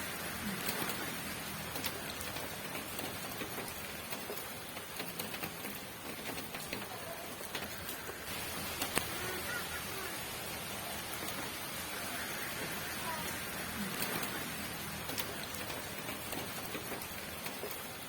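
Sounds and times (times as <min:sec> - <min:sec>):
steady rainfall hiss: 0:00.0 - 0:18.0.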